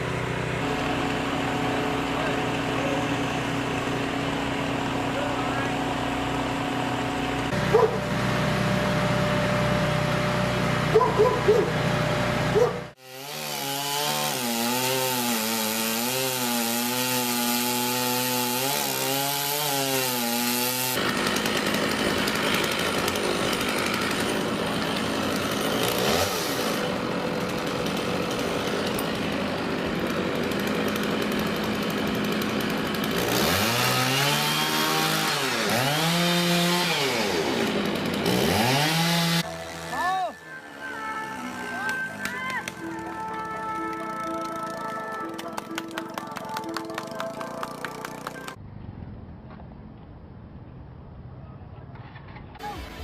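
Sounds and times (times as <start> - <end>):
chainsaw cutting wood: 0.0 - 48.6.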